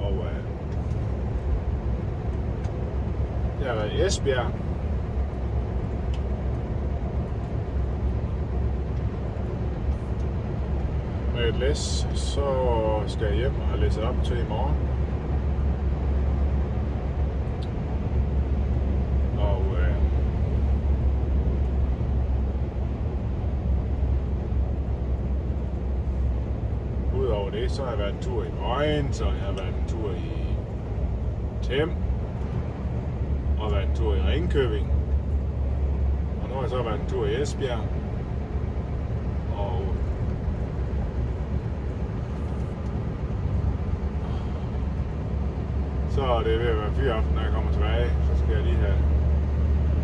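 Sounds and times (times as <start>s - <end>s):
road noise: 0.0s - 50.0s
truck engine droning: 0.0s - 50.0s.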